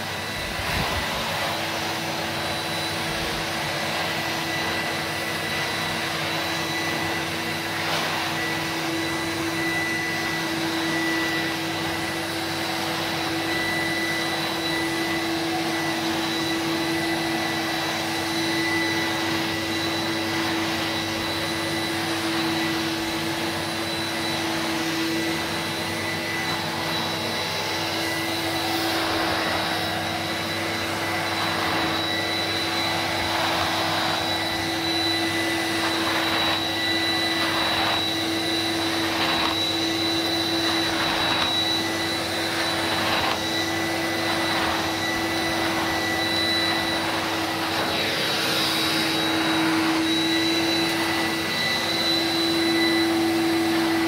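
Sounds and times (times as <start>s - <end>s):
floor tool pushed over rug: 0.0s - 54.0s
vacuum cleaner running: 0.0s - 54.0s.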